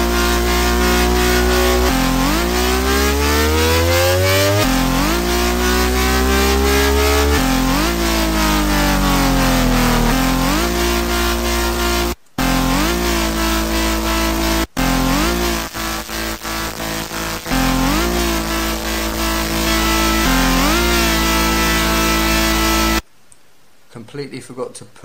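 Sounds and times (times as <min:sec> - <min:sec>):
synth bass sliding in pitch: 0:00.0 - 0:23.0.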